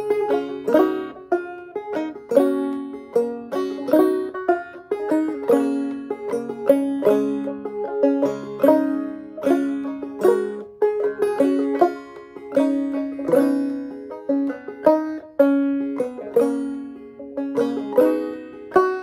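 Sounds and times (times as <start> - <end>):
banjo playing slow melody: 0.0 - 19.0.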